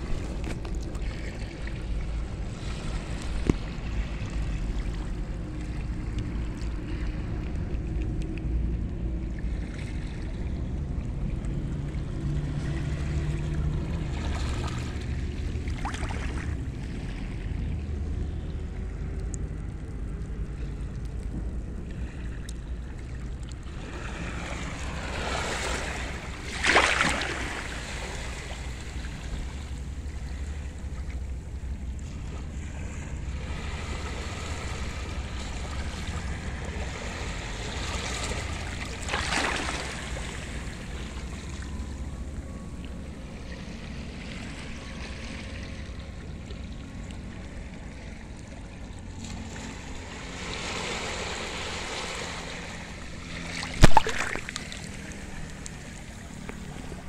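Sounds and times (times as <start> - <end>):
wind rumble on microphone: 0.0 - 57.0
waves splashing over rocks: 10.8 - 57.0.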